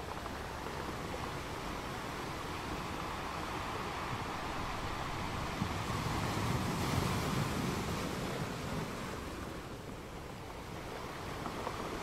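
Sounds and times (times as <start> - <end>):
sea: 0.0 - 12.0
wind: 0.0 - 12.0.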